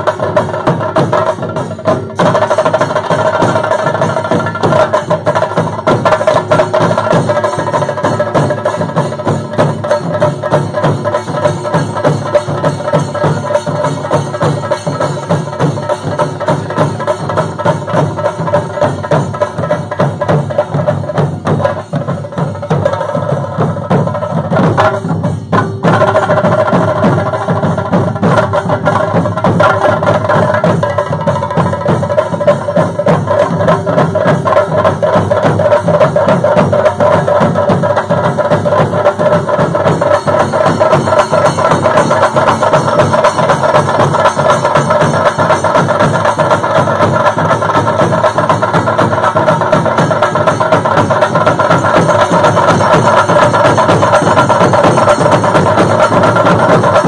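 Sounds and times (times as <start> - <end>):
drum ensemble beating fast: 0.0 - 57.0.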